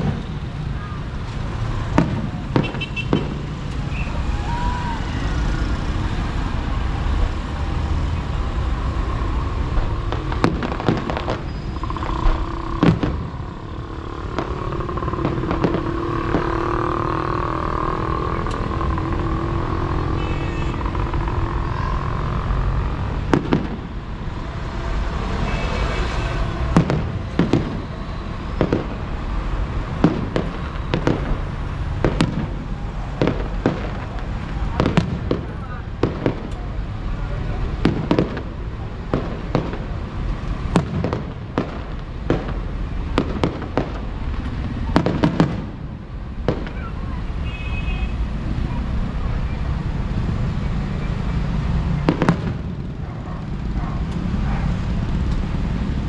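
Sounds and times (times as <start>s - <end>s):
fireworks bangs: 0.0s - 50.4s, 51.0s - 56.0s.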